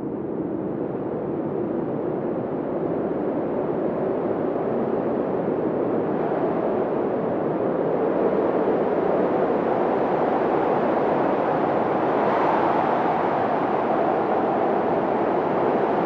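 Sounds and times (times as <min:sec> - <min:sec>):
low hollow rushing wind: 0:00.0 - 0:16.0.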